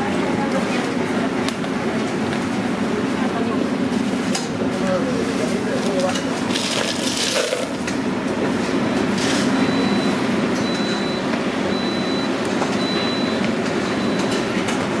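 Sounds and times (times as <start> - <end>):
kitchen machinery drone: 0.0 - 15.0.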